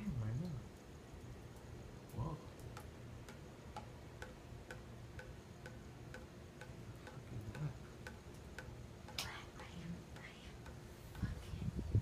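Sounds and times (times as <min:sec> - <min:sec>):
faint even ticking: 0:00.0 - 0:12.0
low steady background rumble: 0:00.0 - 0:12.0.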